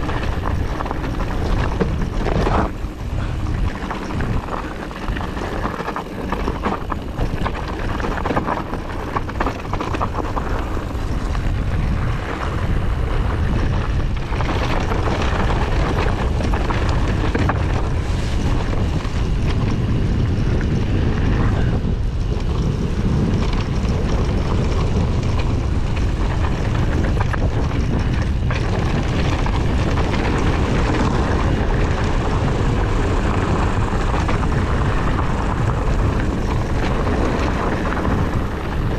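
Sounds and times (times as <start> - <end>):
bike tyres rolling on dirt: 0.0 - 38.9
wind on microphone: 0.0 - 38.9.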